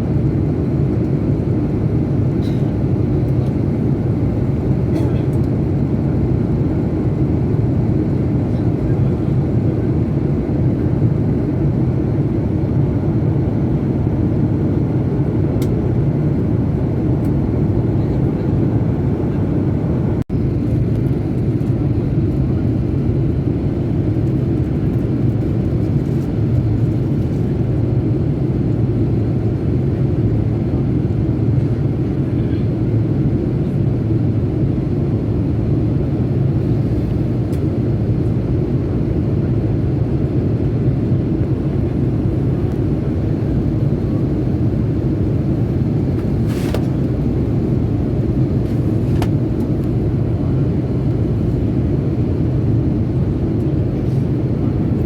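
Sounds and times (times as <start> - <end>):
airplane low rumble: 0.0 - 55.0.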